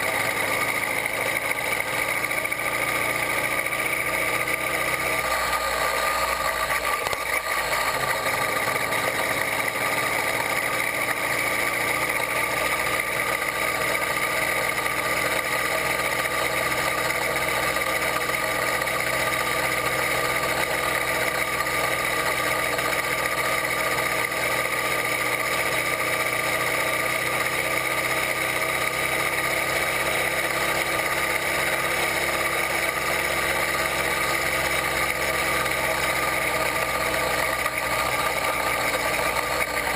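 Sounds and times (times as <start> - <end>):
two-stroke engine buzzing: 0.0 - 39.9.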